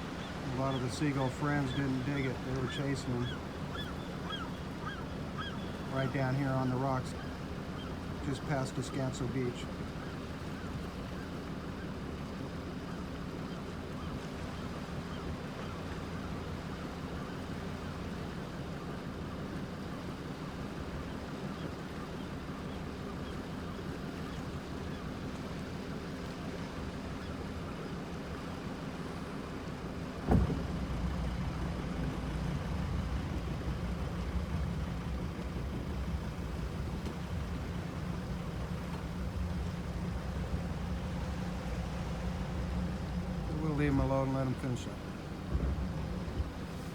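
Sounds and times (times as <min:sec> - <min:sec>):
boat engine idling: 0:00.0 - 0:46.9.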